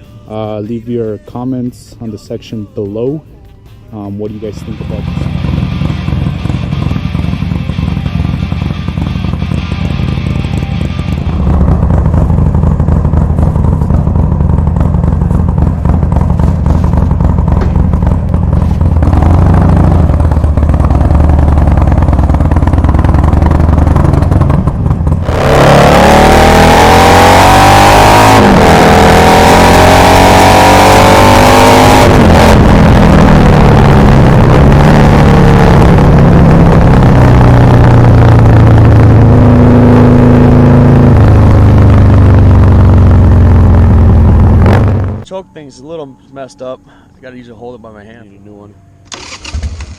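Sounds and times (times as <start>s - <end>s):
motorcycle engine idling and revving: 4.1s - 45.3s, 48.8s - 49.9s.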